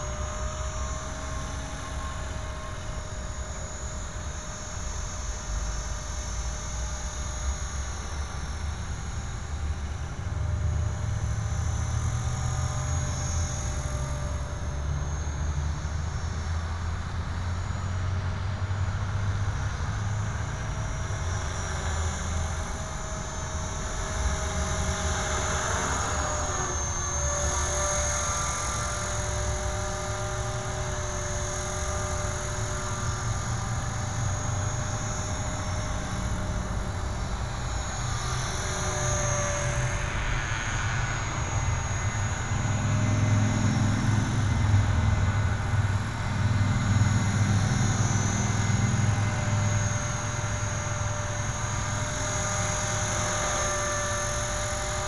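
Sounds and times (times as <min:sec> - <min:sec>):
constant low rumble: 0:00.0 - 0:55.0
electric helicopter motor whine: 0:00.0 - 0:55.0.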